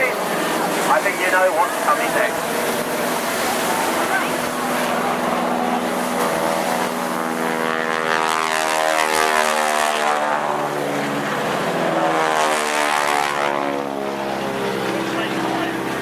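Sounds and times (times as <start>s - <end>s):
biplane engines passing low: 0.0s - 16.0s.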